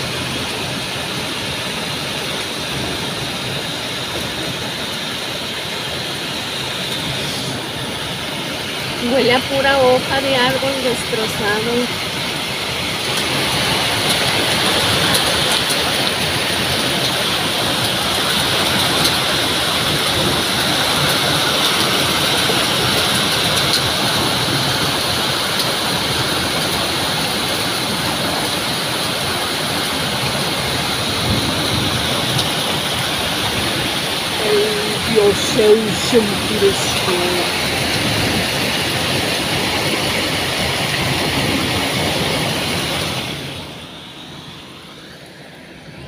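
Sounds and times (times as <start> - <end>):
heavy rain and hail: 0.0 - 46.0.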